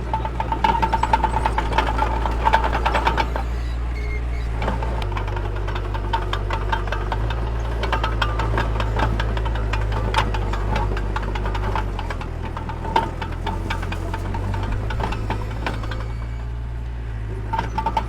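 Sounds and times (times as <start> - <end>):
bulldozer diesel engine running: 0.0 - 18.0
metal clanks and rattles: 0.0 - 18.0.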